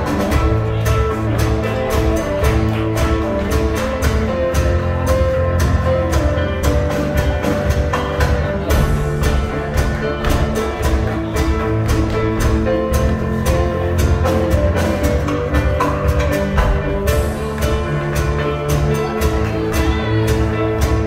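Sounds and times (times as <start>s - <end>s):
fiddle melody: 0.0s - 21.0s
string band playing dance tune: 0.0s - 21.0s.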